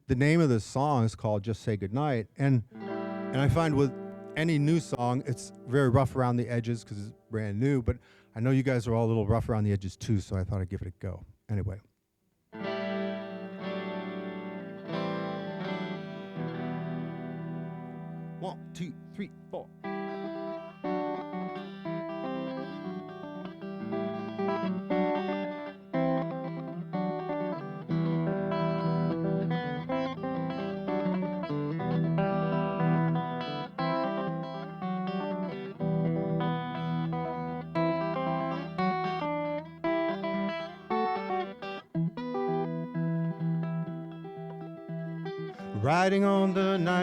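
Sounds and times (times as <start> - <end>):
guitar playing notes and chords: 2.0 - 8.2, 12.5 - 47.0.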